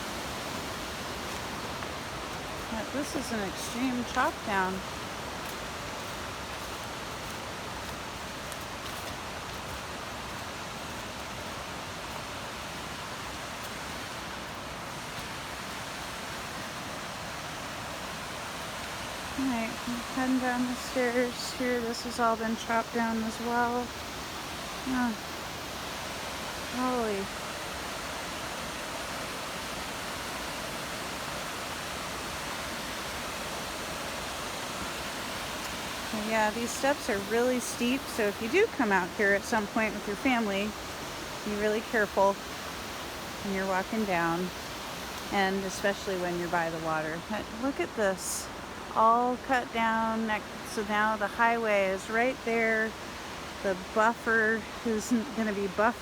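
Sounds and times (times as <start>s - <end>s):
creek water flowing: 0.0s - 56.0s.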